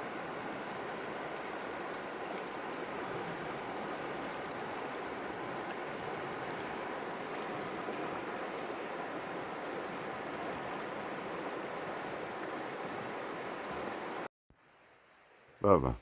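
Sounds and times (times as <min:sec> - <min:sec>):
river water rushing: 0:00.0 - 0:14.9.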